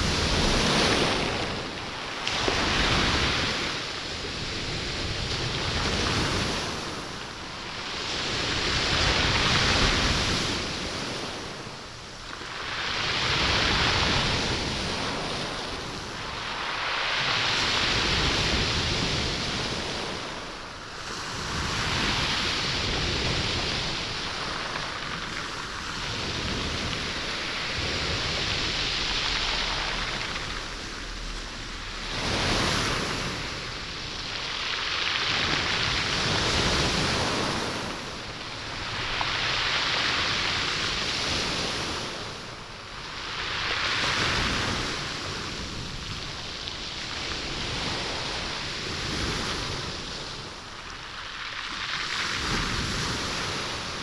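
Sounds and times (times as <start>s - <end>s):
sea waves washing over stony beach: 0.0s - 54.0s.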